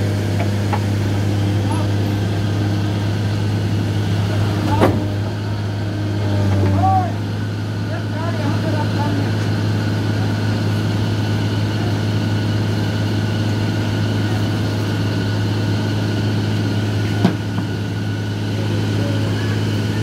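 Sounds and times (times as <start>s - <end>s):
diesel excavator engine idling: 0.0s - 20.0s.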